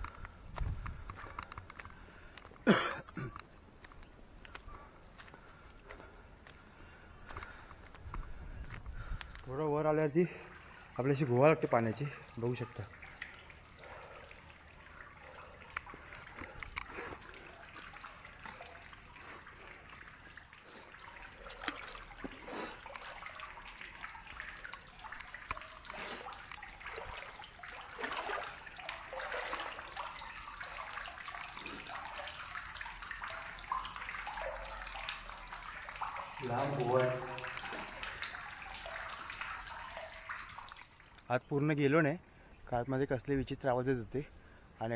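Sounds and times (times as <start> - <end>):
water dripping into pool: 0.0 - 44.9.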